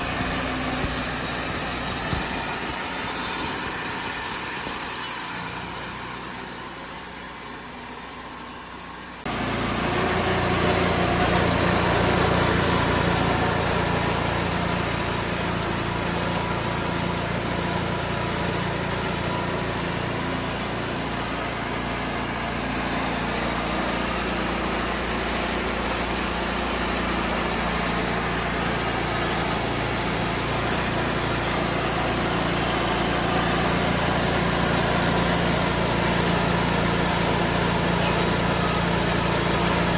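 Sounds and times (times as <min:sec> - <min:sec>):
band sawmill sawing a log: 0:00.0 - 0:39.9.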